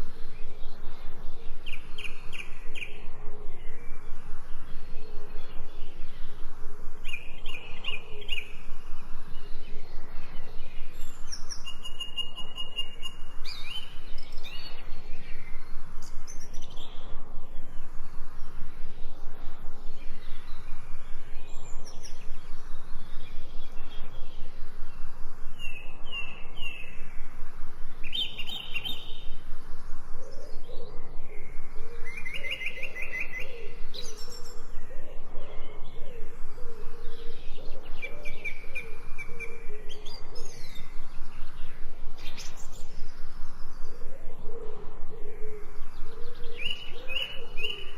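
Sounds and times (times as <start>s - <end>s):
songbirds chirping: 0.0s - 47.9s.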